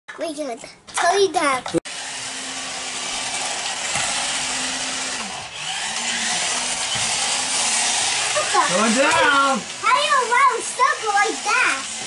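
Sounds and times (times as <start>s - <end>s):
toy car electric motors whining: 1.9s - 12.0s.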